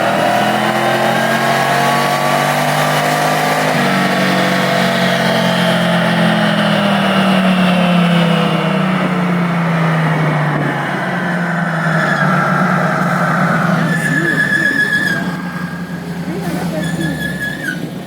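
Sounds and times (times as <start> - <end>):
truck engine revving high: 0.0 - 18.0.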